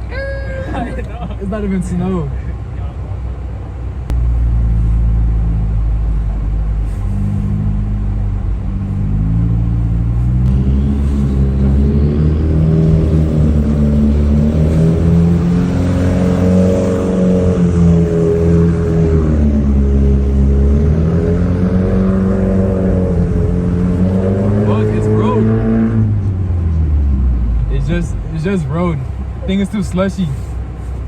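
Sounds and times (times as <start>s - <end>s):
car engine running under load: 0.0s - 31.0s.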